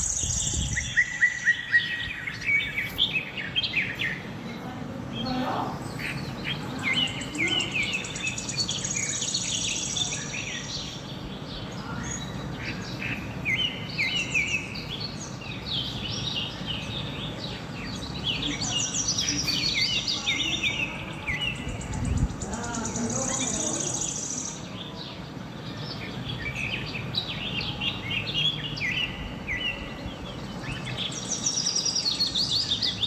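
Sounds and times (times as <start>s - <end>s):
birds chirping and singing: 0.0s - 33.0s
outdoor background hiss: 0.0s - 33.0s.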